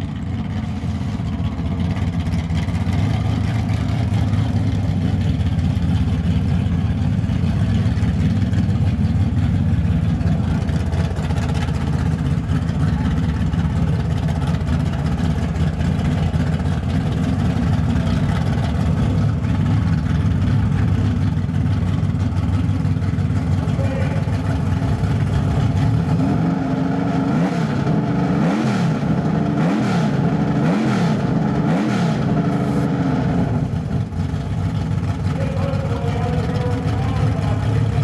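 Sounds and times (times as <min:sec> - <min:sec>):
drag car engine idling loudly: 0:00.0 - 0:38.0.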